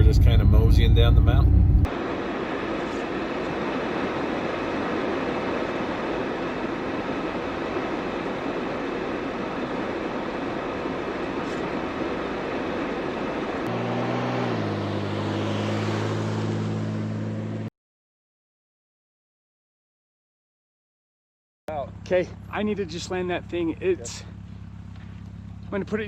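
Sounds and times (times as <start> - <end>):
engine hum with several pitches: 0.0 - 17.7, 21.7 - 26.0
vehicle road and engine noise: 0.0 - 17.7, 21.7 - 26.0.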